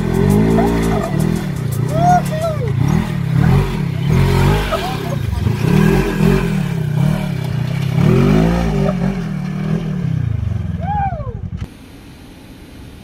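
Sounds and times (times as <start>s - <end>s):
engine revving under load: 0.0s - 11.7s.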